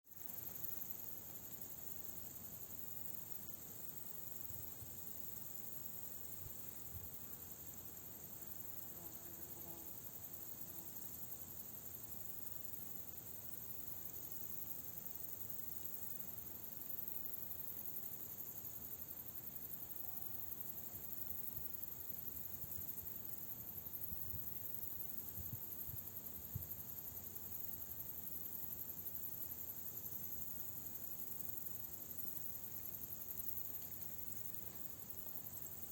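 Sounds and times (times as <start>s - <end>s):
insects chirring: 0.1s - 35.9s.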